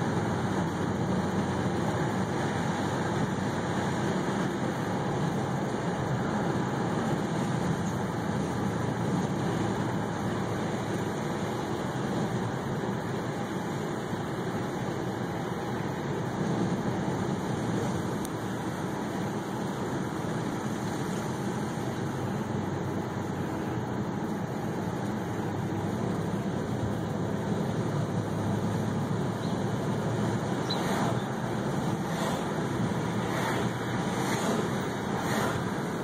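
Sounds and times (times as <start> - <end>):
car engine cruising: 0.0 - 36.0
tyres on the road: 0.0 - 36.0.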